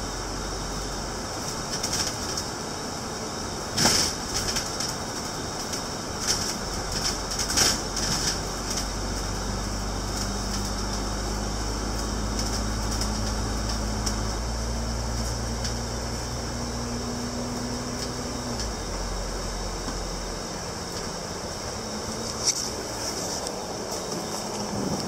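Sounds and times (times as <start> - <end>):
bus engine hum: 0.0 - 25.0
tyre and road noise: 0.0 - 25.0.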